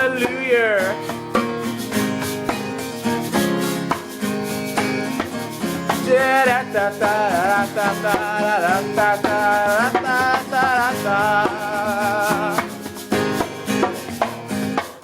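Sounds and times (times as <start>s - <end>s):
wordless vocal melody: 0.0s - 13.9s
acoustic guitar strumming chords: 0.0s - 15.0s.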